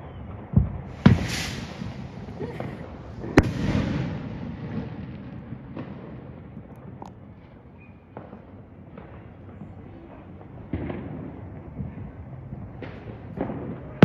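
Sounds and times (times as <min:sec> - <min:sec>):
small firecracker pops: 0:00.0 - 0:07.2, 0:07.8 - 0:14.0
fireworks banging with echo: 0:00.0 - 0:14.0.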